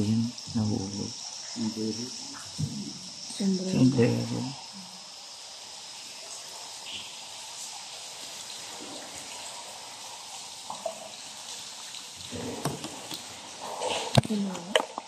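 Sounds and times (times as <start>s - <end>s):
faint high hiss: 0.0s - 14.8s
water trickling and dripping: 0.0s - 15.0s.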